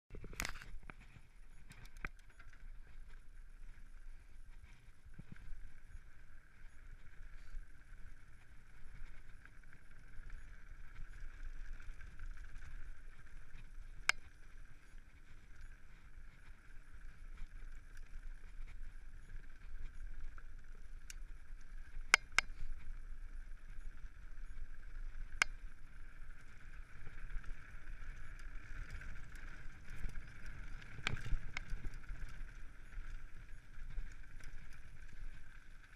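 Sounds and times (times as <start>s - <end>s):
bike tyre and drivetrain rush: 0.1s - 35.9s.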